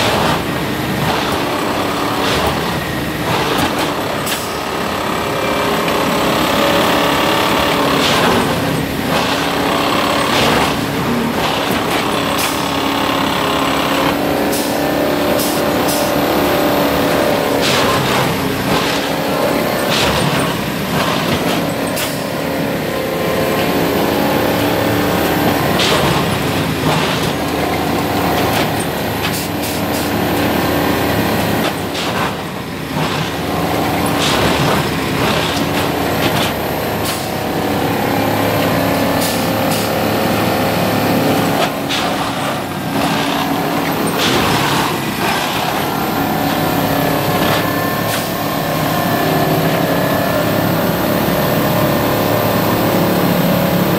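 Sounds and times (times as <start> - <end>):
clanks from working gear: 0.0 - 53.5
heavy diesel engine running: 0.0 - 53.9.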